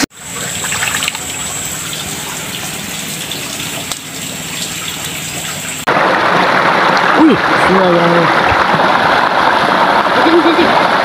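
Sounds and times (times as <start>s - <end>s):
water rushing down stream: 0.0s - 11.0s.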